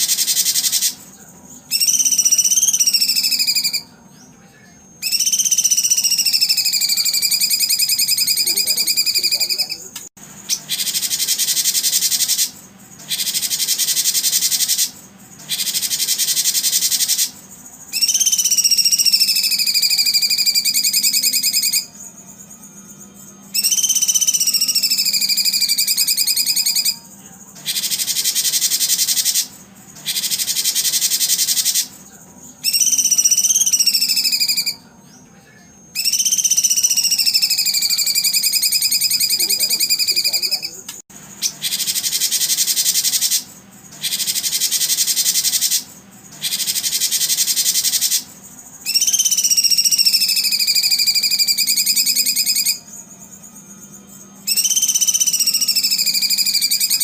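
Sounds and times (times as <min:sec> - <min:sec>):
wavering whistled bird notes: 0:00.0 - 0:40.8, 0:41.4 - 0:57.0
buzzy high bird trilling: 0:00.0 - 0:57.0.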